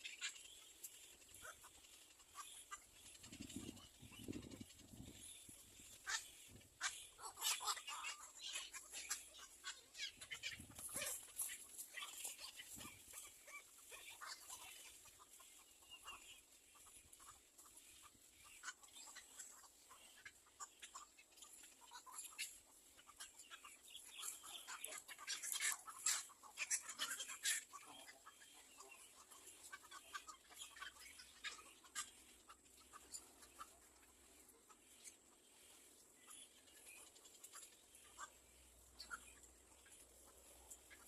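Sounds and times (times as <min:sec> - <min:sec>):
nestling birds chirping: 0:00.0 - 0:41.0.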